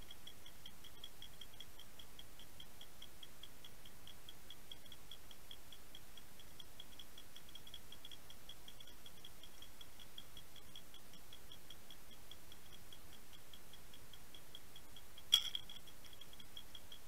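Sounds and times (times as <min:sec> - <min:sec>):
faint steady hiss: 0:00.0 - 0:17.0
rapid high-pitched ticking: 0:00.0 - 0:17.0.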